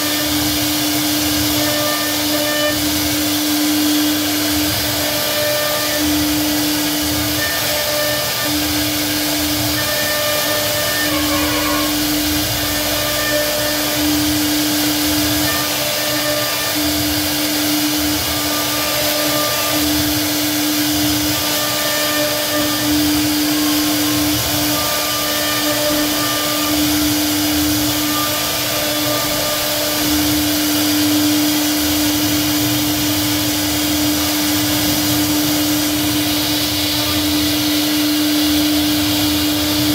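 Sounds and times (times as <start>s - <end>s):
router bit cutting wood: 0.0s - 39.9s
router spindle humming: 0.0s - 39.9s.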